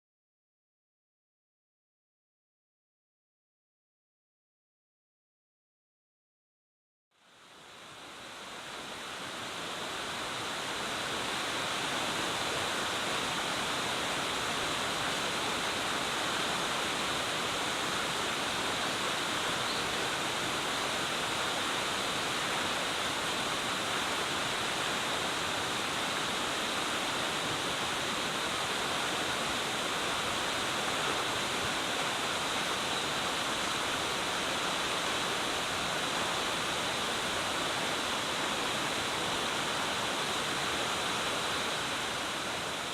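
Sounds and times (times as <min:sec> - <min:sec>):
waterfall rushing: 0:07.3 - 0:42.9.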